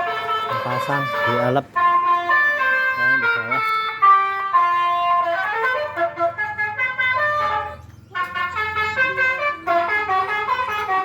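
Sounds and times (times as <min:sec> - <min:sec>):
musical vehicle horn melody: 0:00.0 - 0:11.0.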